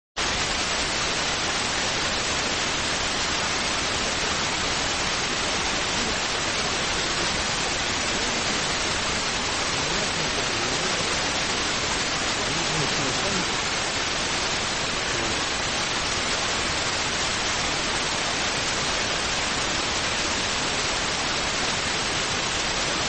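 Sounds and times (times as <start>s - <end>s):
static hiss: 0.2s - 23.0s.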